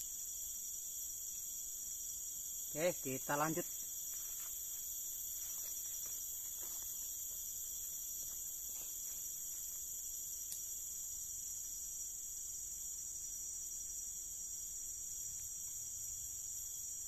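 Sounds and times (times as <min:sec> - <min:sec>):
insects chorus drone: 0:00.0 - 0:17.0.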